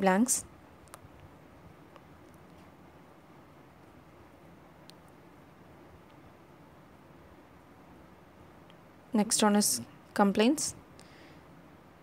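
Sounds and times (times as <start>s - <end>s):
faint room hum and hiss: 0.0s - 12.0s.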